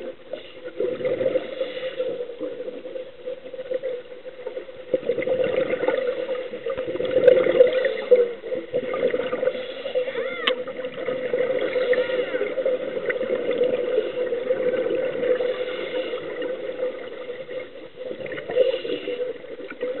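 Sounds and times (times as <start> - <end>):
gurgling diver bubbles: 0.0 - 20.0
steady underwater hum: 0.0 - 20.0.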